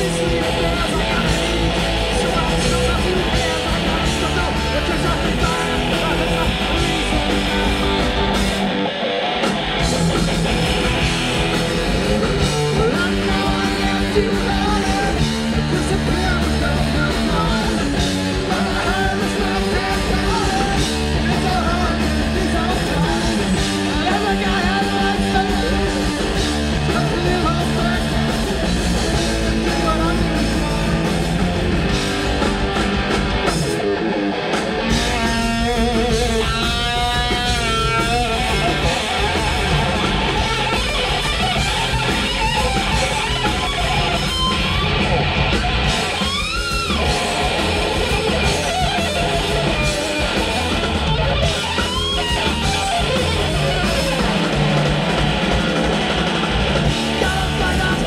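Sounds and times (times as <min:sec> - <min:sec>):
lead guitar bent notes: 0:00.0 - 0:58.0
live rock band playing: 0:00.0 - 0:58.0.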